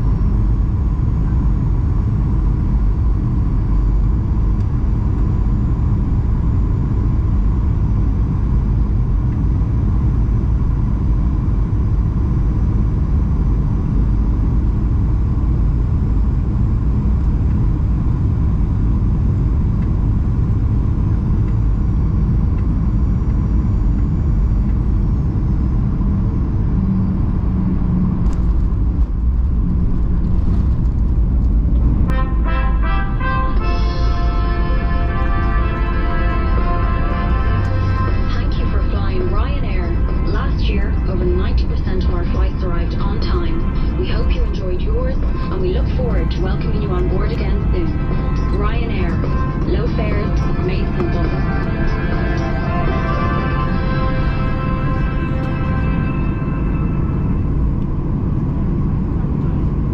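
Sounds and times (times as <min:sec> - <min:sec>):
airplane cabin engine rumble: 0:00.0 - 0:59.9.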